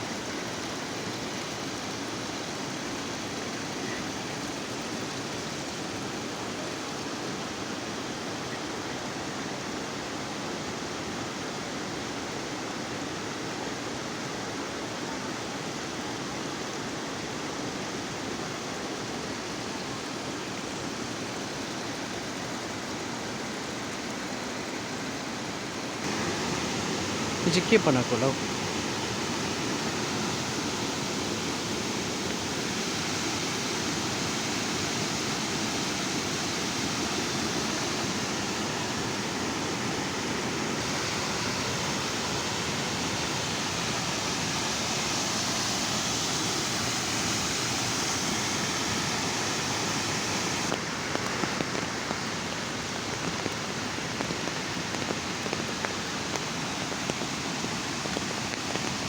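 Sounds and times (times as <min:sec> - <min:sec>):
waterfall rushing: 0:00.0 - 0:07.7, 0:19.0 - 0:59.0.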